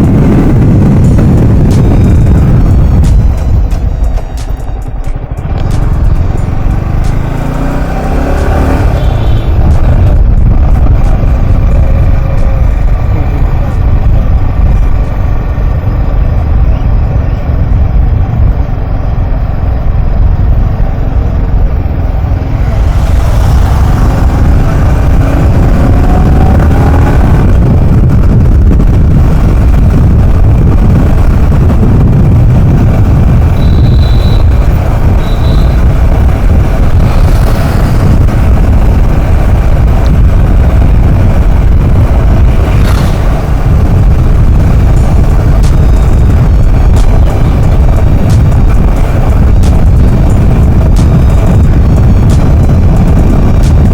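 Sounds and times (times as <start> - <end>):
vehicle engine running: 0.0 - 53.9
wind rushing over microphone: 0.0 - 53.9.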